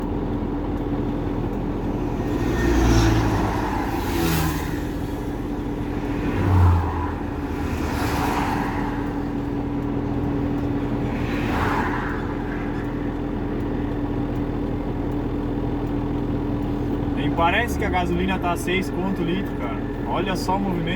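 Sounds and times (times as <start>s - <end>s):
diesel truck engine running: 0.0s - 20.9s
passing vehicles whooshing: 0.0s - 20.9s.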